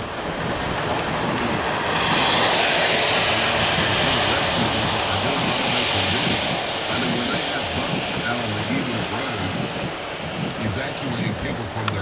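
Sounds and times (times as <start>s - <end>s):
car road noise in rain: 0.0s - 12.0s
tyre spray hiss: 1.4s - 12.0s.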